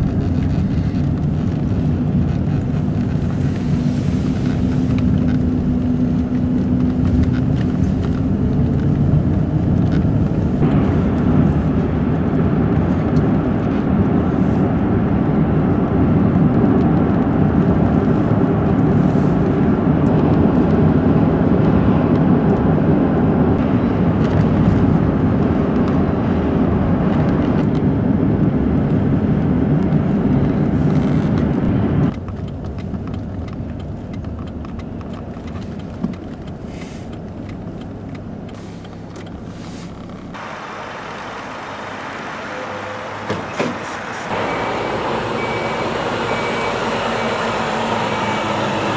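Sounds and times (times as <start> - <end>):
car cabin road rumble: 0.0 - 48.9.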